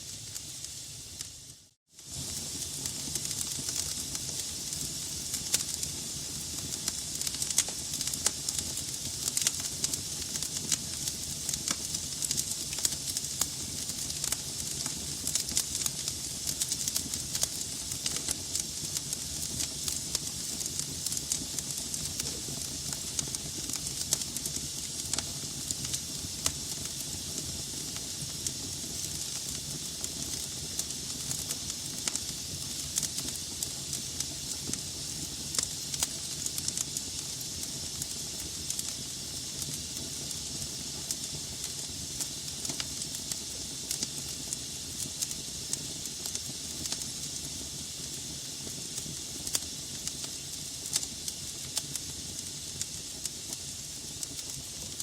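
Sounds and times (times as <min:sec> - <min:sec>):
log fire crackling and hissing: 0:00.0 - 0:55.0.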